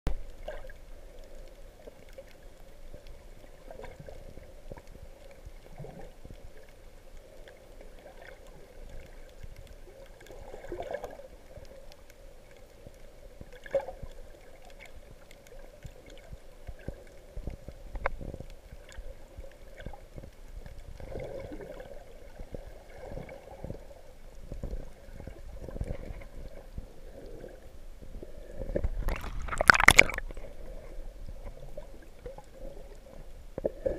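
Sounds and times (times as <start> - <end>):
faint clicks: 0.1 - 27.5
muffled underwater wash: 0.1 - 33.9
water swishes: 0.1 - 33.9.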